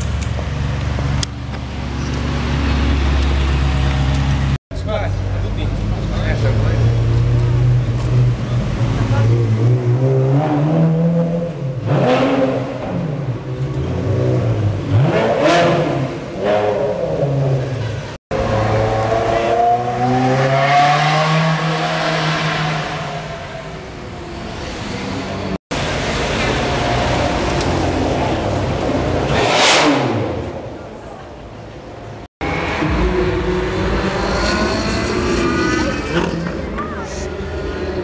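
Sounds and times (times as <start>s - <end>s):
sports car engines revving: 0.1s - 38.0s.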